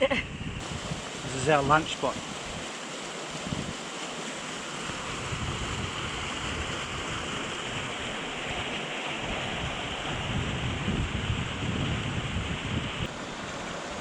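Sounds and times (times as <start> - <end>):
flowing water: 0.0 - 14.0
wind buffeting microphone: 0.2 - 2.7, 3.3 - 3.8, 4.8 - 13.2.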